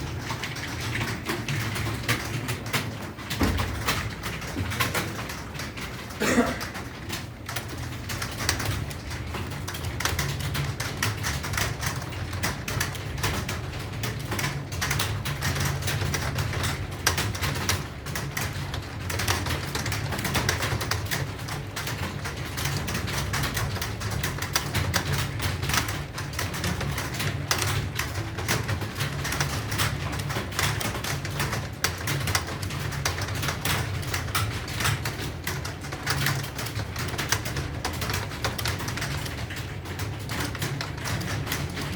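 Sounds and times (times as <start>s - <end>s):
fast keyboard typing: 0.0s - 41.9s.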